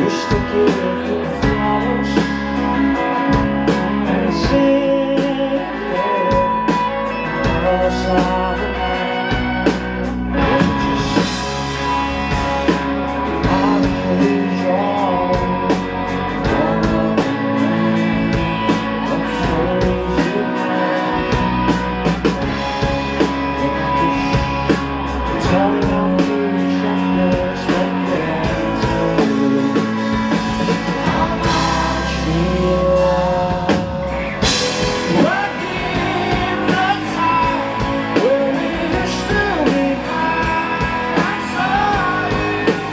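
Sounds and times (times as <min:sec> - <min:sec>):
rock band playing live: 0:00.0 - 0:42.9
sung lead vocal: 0:00.0 - 0:42.9.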